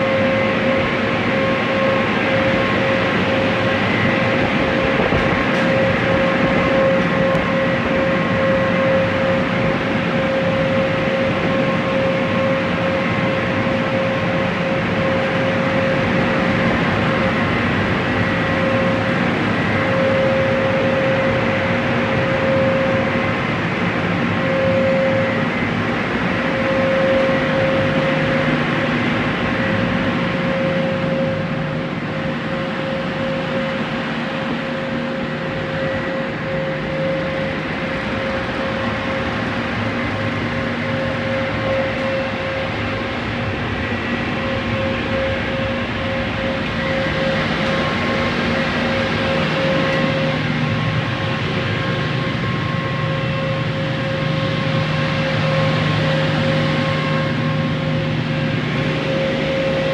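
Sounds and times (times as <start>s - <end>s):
car wash machinery rushing: 0.0s - 30.6s, 31.7s - 59.9s
constant whine: 0.0s - 59.9s.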